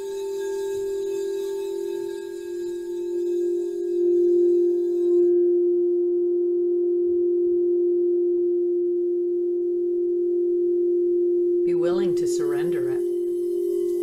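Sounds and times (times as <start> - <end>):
singing bowl tone: 0.0 - 14.0.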